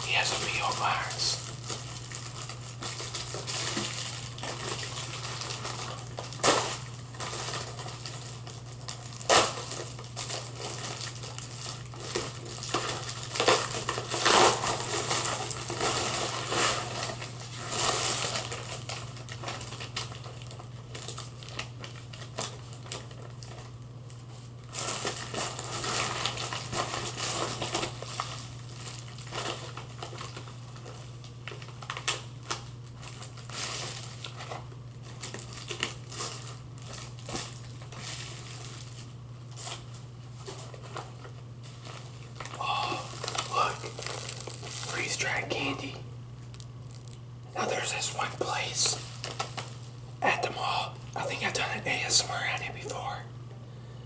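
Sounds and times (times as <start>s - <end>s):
plastic wrapping crinkling: 0.0s - 53.2s.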